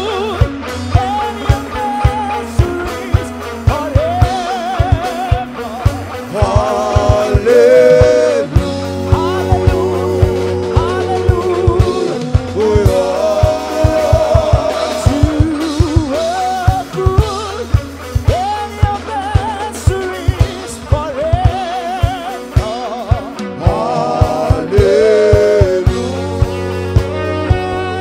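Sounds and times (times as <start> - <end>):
bass line: 0.0 - 28.0
person singing: 0.0 - 28.0
steady drum beat: 0.0 - 28.0.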